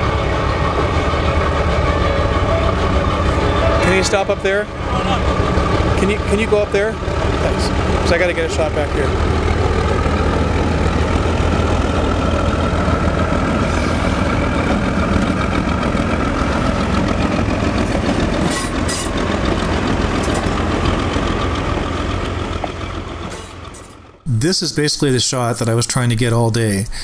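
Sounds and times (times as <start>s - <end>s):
coaches rolling on rails: 0.0s - 24.2s
diesel locomotive engine drone: 0.0s - 26.2s.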